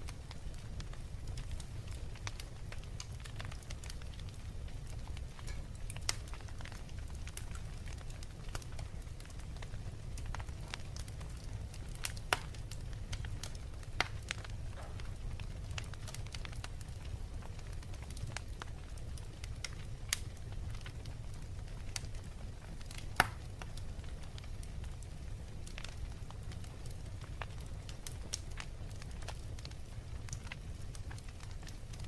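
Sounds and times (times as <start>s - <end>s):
low fire rumble: 0.0s - 32.0s
wood fire crackling: 0.0s - 32.0s.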